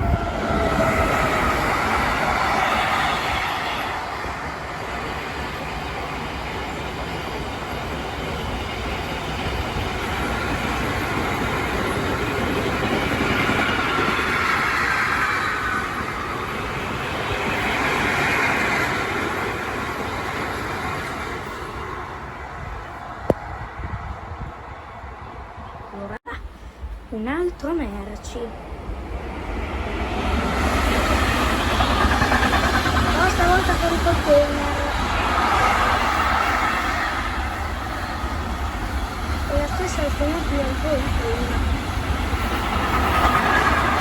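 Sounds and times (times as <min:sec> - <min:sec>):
steel wheels screeching on rails: 0:00.0 - 0:22.3, 0:29.5 - 0:44.0
train wheels rumbling and clattering: 0:00.0 - 0:24.7, 0:28.6 - 0:44.0.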